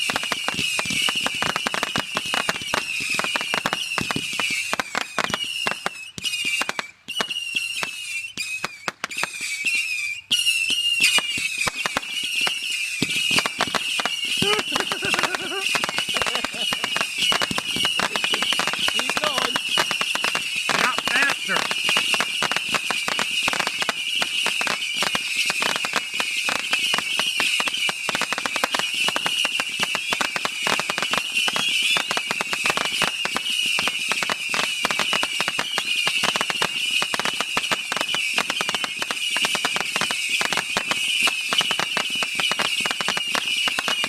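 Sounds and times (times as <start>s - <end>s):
firework crackling: 0.0s - 44.0s.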